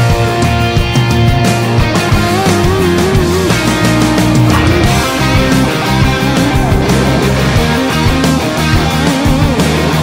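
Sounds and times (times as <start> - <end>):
loud rock music with guitar: 0.0 - 10.0.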